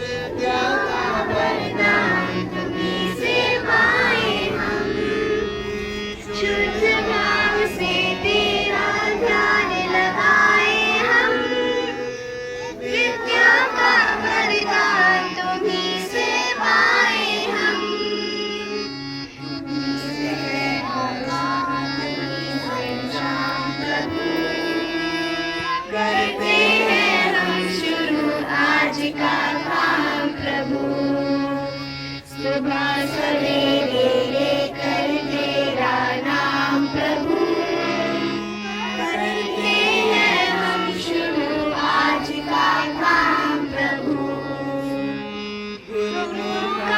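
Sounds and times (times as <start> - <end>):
children singing: 0.0 - 18.9, 19.5 - 46.9
held instrumental chords: 0.0 - 46.9.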